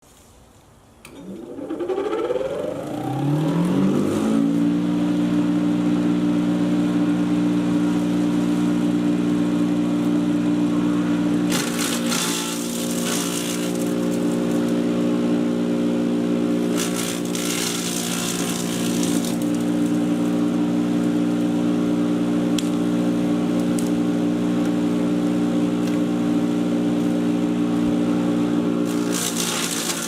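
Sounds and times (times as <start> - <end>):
chipper shredder motor hum: 1.0 - 30.0.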